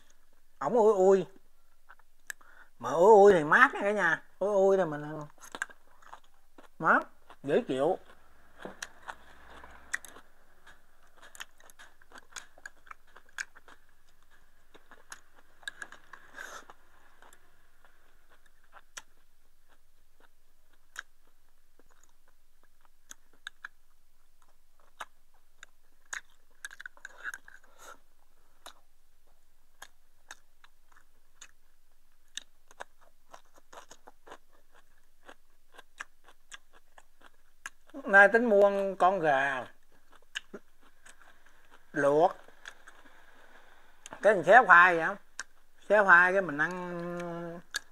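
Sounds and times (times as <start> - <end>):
person chewing: 1.7 - 2.7, 4.8 - 47.9.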